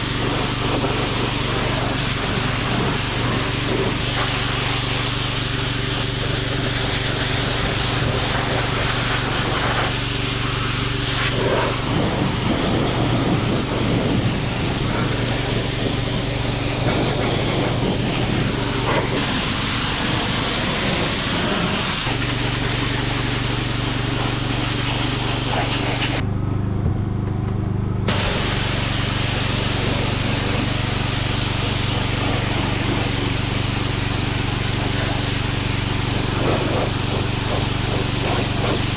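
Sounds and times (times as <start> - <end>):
water jet hissing: 0.0 - 26.2, 28.1 - 38.9
pressure washer engine humming: 0.0 - 38.9.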